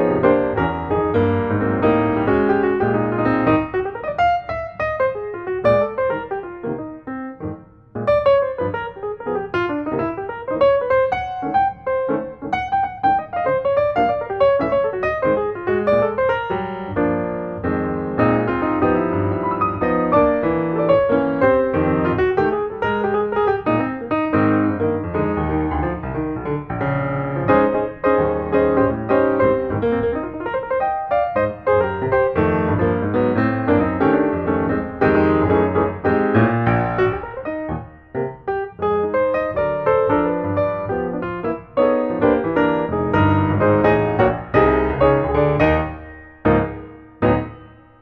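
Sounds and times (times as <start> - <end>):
piano music: 0.0 - 48.0.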